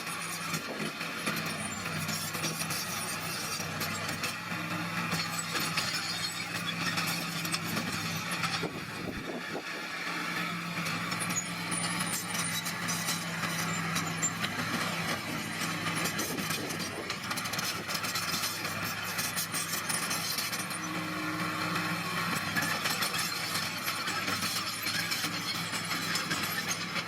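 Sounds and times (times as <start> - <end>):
tracks clanking and scraping stone: 0.0 - 21.1, 22.3 - 27.0
bulldozer engine running: 0.0 - 27.0.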